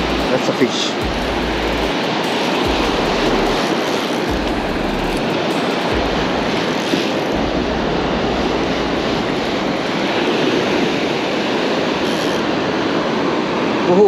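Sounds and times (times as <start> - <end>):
wind noise on microphone: 0.0 - 13.9
surf breaking on beach: 0.0 - 14.0.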